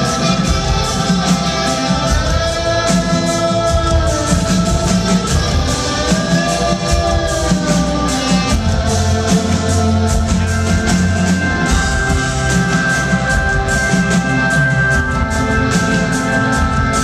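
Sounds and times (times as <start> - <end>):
drums beating steadily: 0.0 - 17.0
rock band playing live: 0.0 - 17.0.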